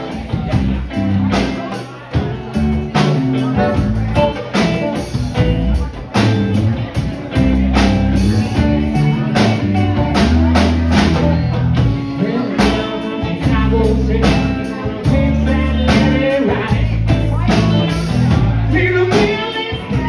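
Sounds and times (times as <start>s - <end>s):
bass notes: 0.0s - 20.0s
drum kit: 0.0s - 20.0s
electric guitars: 0.0s - 20.0s.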